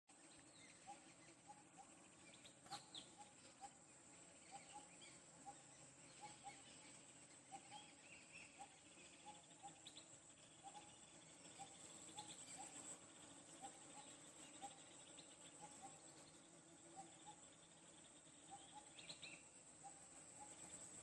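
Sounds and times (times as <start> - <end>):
bird chirps: 0.1 - 21.0
insects droning: 0.1 - 21.0.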